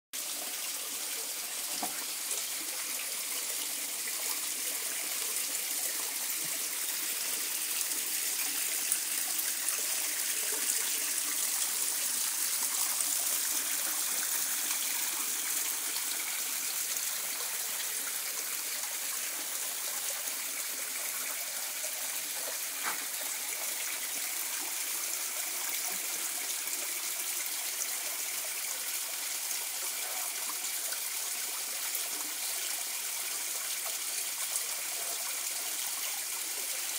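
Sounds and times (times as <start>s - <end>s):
small waterfall splashing: 0.2s - 36.9s.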